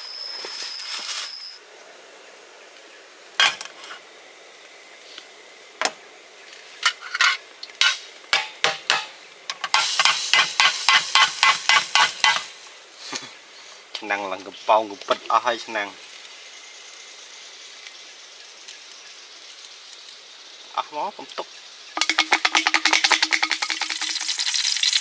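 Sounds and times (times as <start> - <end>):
sizzling: 2.8 - 25.0.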